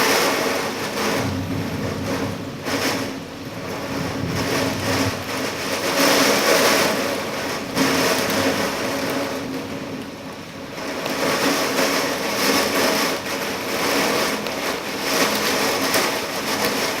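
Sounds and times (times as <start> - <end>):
heavy rain and wind: 0.0 - 17.0.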